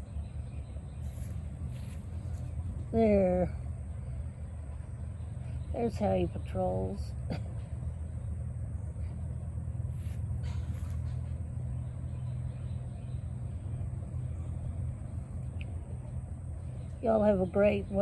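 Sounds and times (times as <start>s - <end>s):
low mechanical motor rumble: 0.0s - 18.0s.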